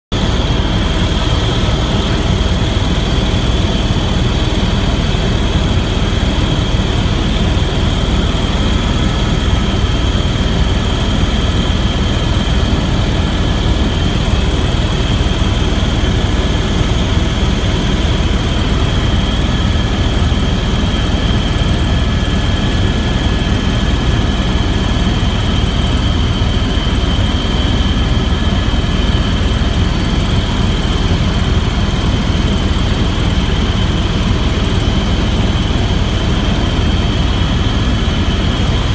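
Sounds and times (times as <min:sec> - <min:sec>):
aircraft cabin engine drone: 0:00.1 - 0:38.9
high engine whine: 0:00.1 - 0:38.9.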